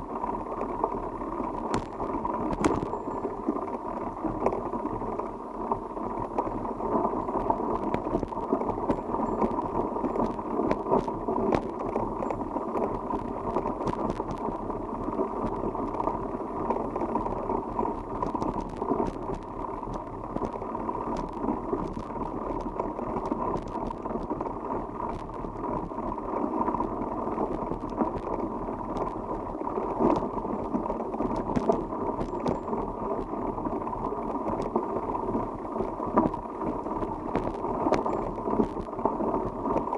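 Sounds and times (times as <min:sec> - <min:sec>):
bicycle clicks and rattles: 0:00.0 - 0:39.9
bicycle tyre and wind rumble: 0:00.0 - 0:39.9.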